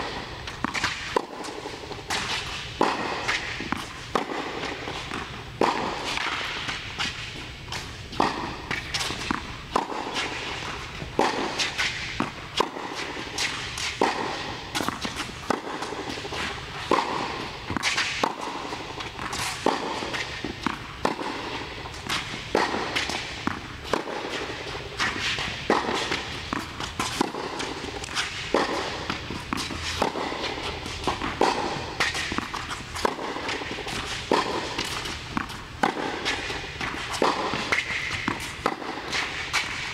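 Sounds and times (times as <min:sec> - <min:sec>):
racket hitting tennis balls: 0:00.0 - 0:39.9.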